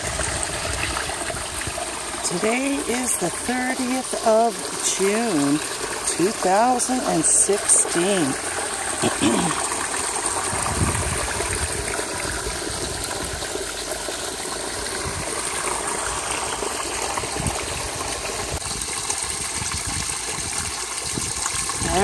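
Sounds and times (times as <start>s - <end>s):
water splashing and rushing: 0.0s - 22.0s.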